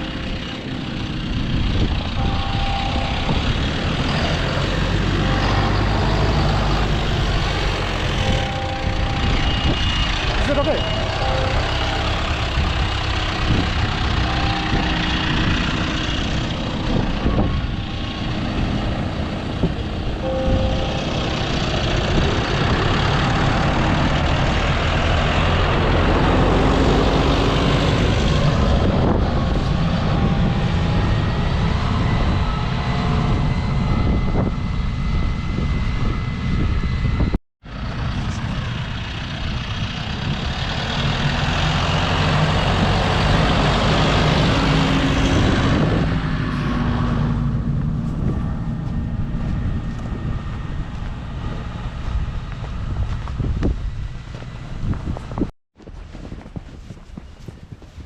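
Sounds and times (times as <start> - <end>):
heavy vehicle engine rumbling: 0.0 - 58.0.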